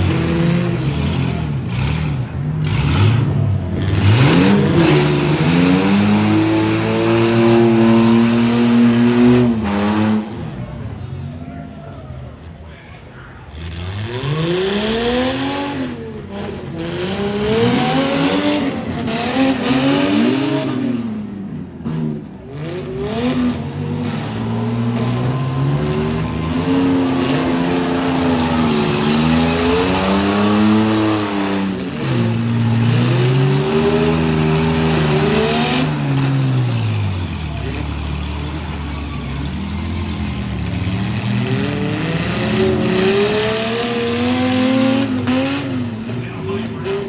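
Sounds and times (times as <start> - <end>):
engines revving hard: 0.0 - 11.0, 13.4 - 47.0
vehicles ramming: 0.0 - 47.0.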